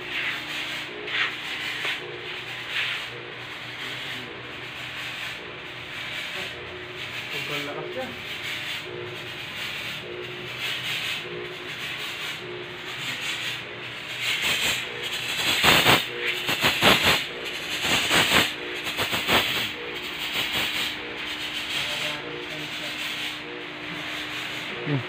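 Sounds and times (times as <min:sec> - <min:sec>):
faint pulsing hum: 0:00.0 - 0:25.0
fogging machine hissing: 0:00.0 - 0:25.0.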